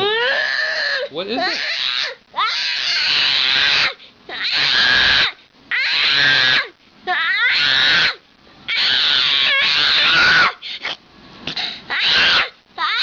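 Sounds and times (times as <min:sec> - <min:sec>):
toddler screaming: 0:00.0 - 0:10.6, 0:11.9 - 0:13.0.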